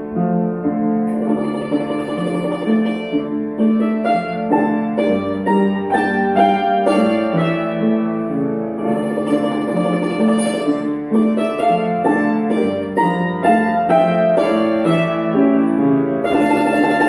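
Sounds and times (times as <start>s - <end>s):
piano chords: 0.0s - 17.0s
hammered dulcimer melody: 0.8s - 17.0s.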